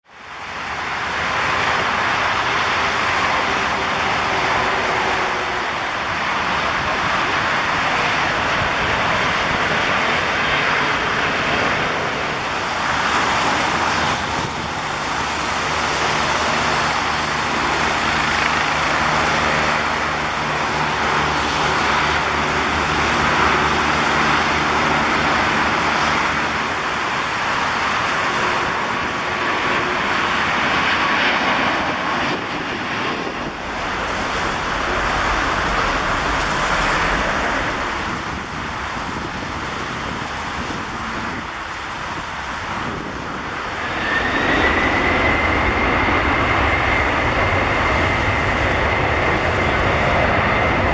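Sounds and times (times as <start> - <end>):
low engine drone: 0.0 - 50.9
heavy rain falling: 0.5 - 32.2, 33.1 - 43.8.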